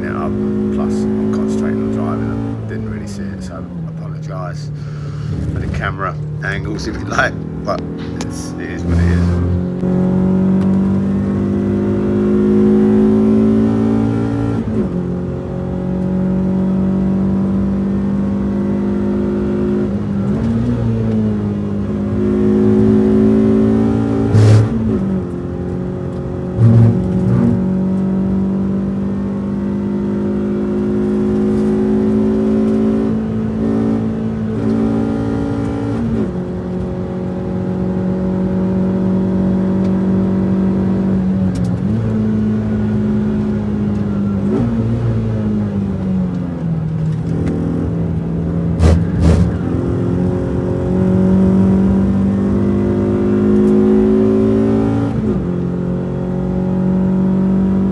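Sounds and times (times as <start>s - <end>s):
car engine revving through gears: 0.0s - 57.9s.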